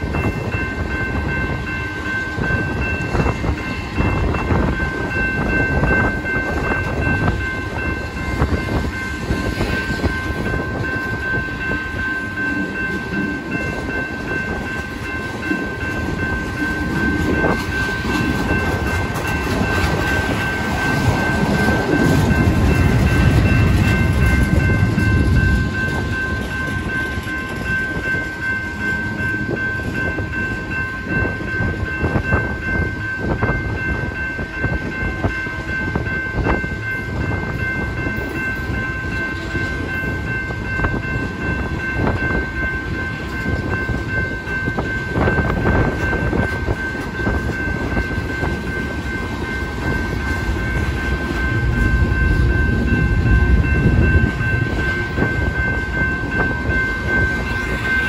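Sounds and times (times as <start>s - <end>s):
high-pitched ringing tone: 0.0s - 58.0s
train wheels rumbling on rails: 0.0s - 58.0s.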